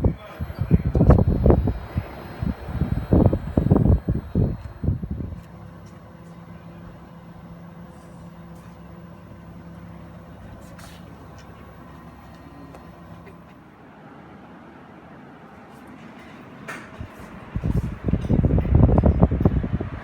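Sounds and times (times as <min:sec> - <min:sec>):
air conditioner hum: 0:00.0 - 0:20.0.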